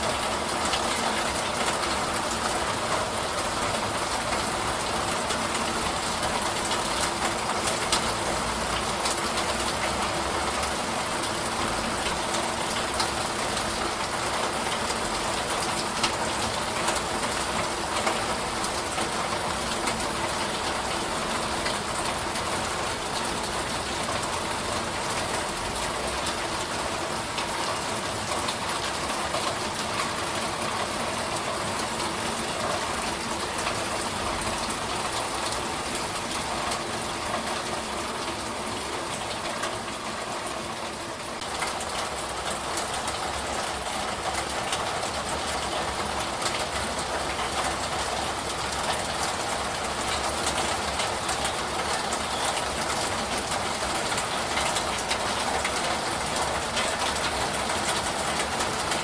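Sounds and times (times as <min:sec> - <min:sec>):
steady rain falling: 0:00.0 - 0:59.0
rain drop ticks: 0:00.4 - 0:40.6, 0:41.4 - 0:59.0.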